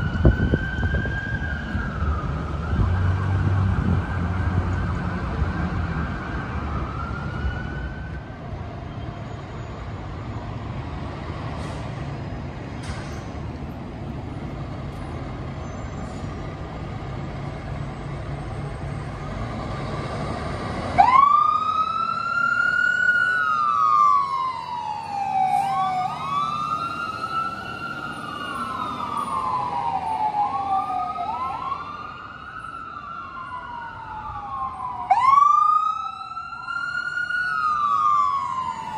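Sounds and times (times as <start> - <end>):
emergency sirens wailing: 0.0 - 38.9
heavy engine: 0.0 - 38.9
street traffic: 0.0 - 38.9.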